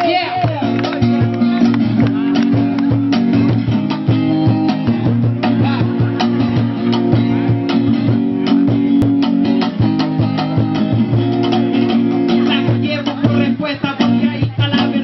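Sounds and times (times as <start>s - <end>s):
bass notes: 0.0s - 15.0s
guitar line: 0.0s - 15.0s
drum hits: 0.5s - 13.4s.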